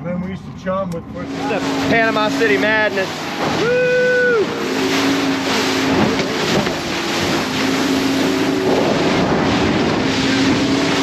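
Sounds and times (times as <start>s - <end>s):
motorboat engine running: 0.0s - 11.0s
wind and water rushing: 0.0s - 11.0s.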